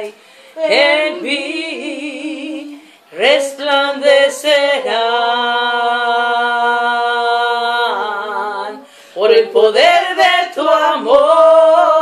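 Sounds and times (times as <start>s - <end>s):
women singing a cappella: 0.0s - 12.0s.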